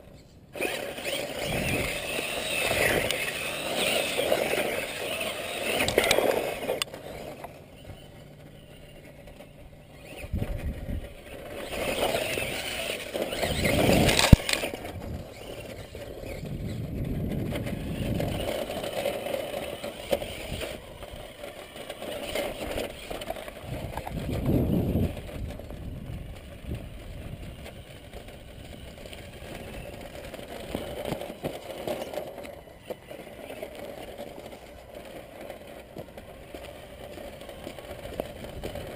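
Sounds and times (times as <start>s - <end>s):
rc truck motor whirring: 0.0s - 38.9s
tyres rattling over dirt: 0.0s - 38.9s.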